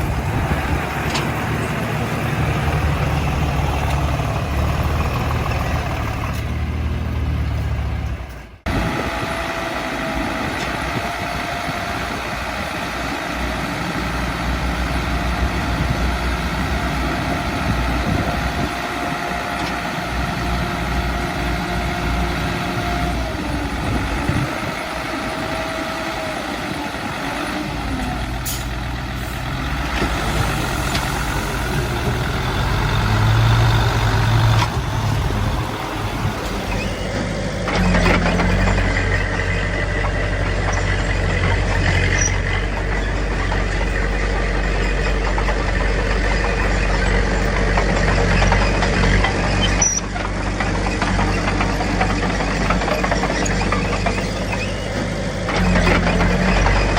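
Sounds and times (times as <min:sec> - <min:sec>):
earthmoving machinery diesel engines: 0:00.0 - 0:56.9.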